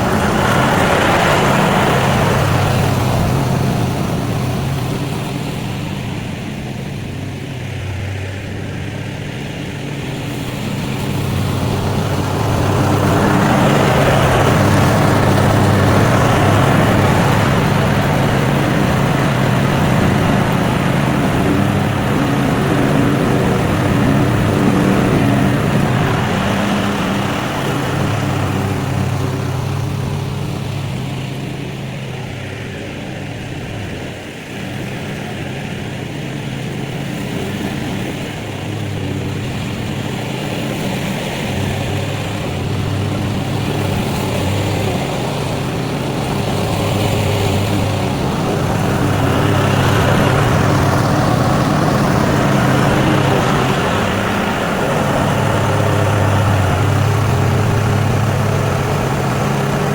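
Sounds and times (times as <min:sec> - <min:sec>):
small petrol engine running: 0:00.0 - 0:34.0, 0:35.2 - 0:59.9.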